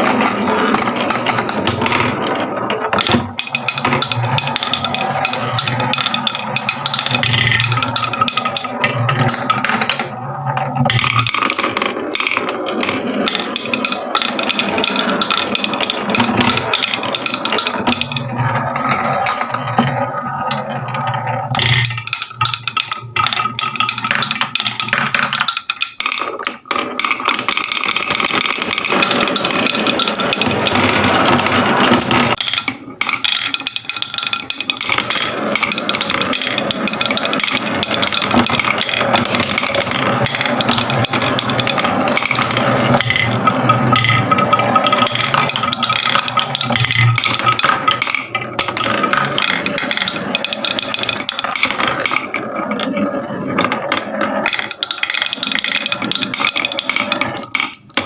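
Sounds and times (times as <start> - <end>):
marbles rolling and clattering: 0.0 - 58.0.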